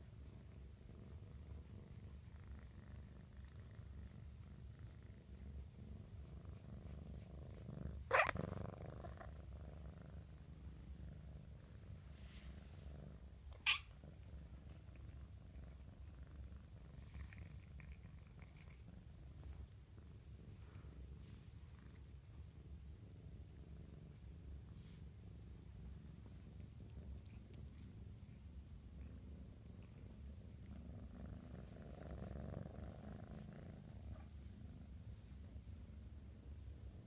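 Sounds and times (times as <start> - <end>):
kitten purring: 0.0 - 37.0.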